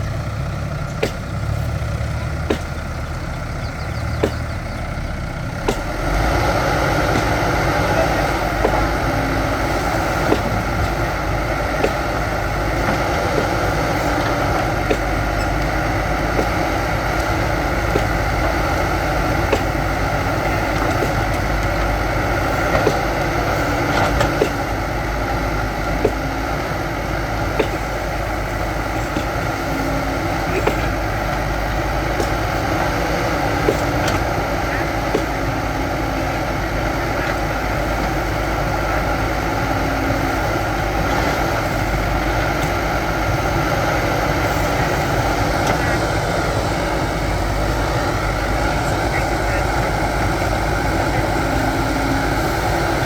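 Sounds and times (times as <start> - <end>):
diesel engine of backhoe: 0.0 - 53.0.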